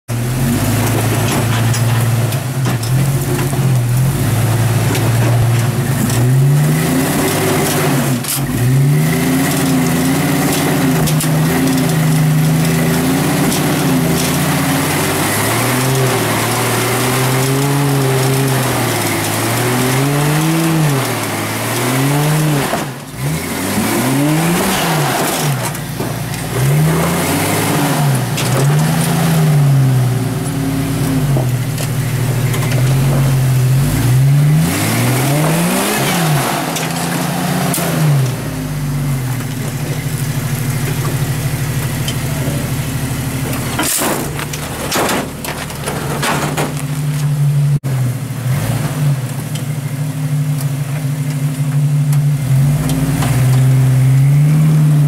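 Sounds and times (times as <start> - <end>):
off-road engine revving: 0.0 - 55.0.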